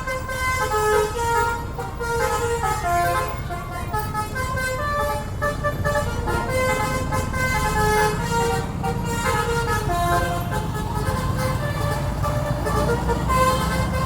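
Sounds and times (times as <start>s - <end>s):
low engine rumble: 0.0s - 14.0s
multi-note air horn tune: 0.0s - 14.0s.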